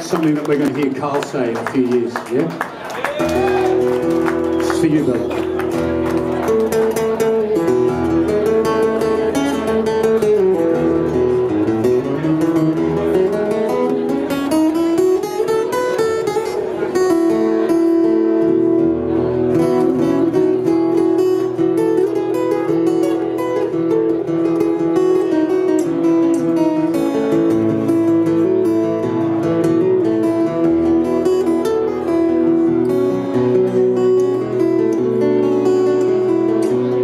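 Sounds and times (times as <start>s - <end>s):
acoustic guitar strumming: 3.2s - 37.0s.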